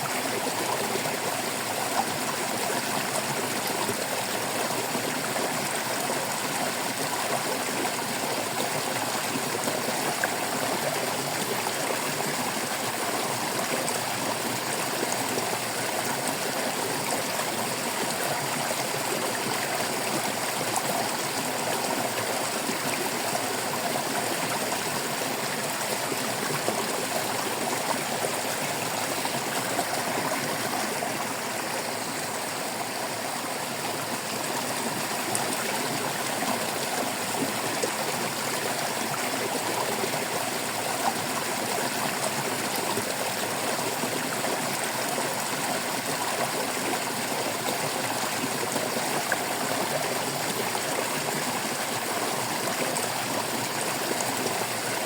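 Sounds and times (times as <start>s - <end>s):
water babbling over stones: 0.0s - 55.0s.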